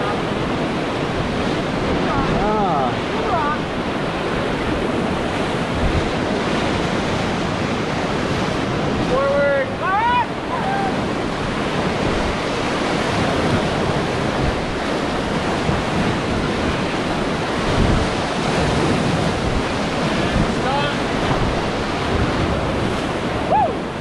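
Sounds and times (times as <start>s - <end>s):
whitewater rapids roaring: 0.0s - 24.0s
wind on microphone: 0.0s - 24.0s.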